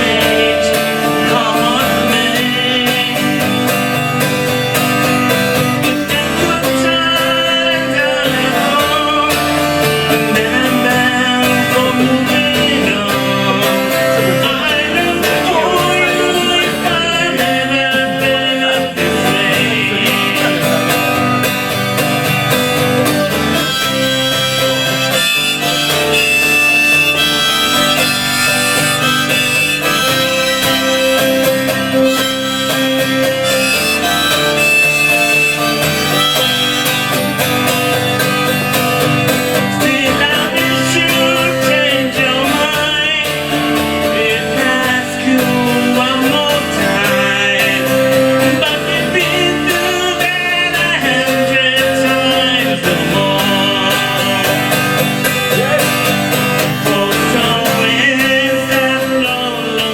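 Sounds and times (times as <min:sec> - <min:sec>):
harmonica melody: 0:00.0 - 0:59.8
acoustic guitar: 0:00.0 - 0:59.9.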